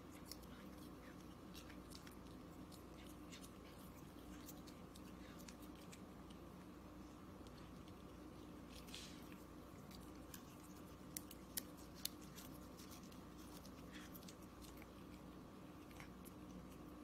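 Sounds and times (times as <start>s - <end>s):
cat crunching a salad leaf: 0.0s - 17.0s.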